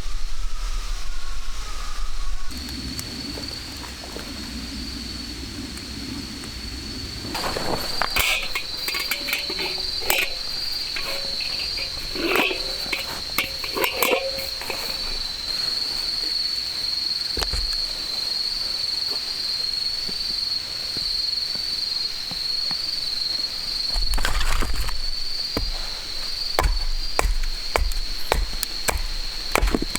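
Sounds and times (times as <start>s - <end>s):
insects chirring: 0.4s - 29.9s.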